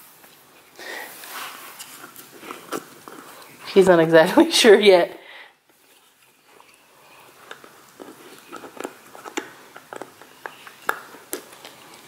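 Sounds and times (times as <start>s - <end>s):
puppy gnawing hoof chew: 0.2s - 4.0s, 5.7s - 12.0s.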